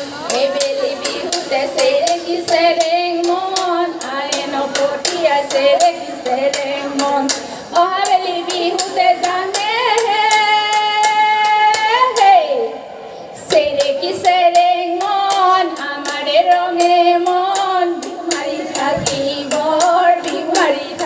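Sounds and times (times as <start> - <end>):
women singing: 0.0 - 12.8, 13.4 - 21.0.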